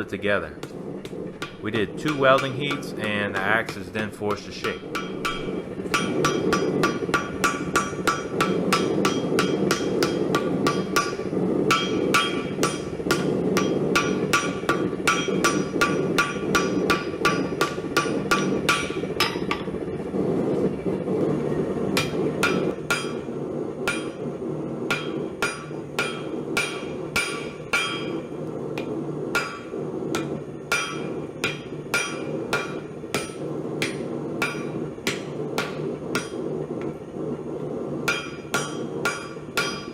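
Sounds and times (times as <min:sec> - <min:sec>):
low rushing noise: 0:00.0 - 0:39.9
hammer striking steel on anvil: 0:00.6 - 0:19.7, 0:22.0 - 0:24.3, 0:24.9 - 0:37.0, 0:38.0 - 0:39.9.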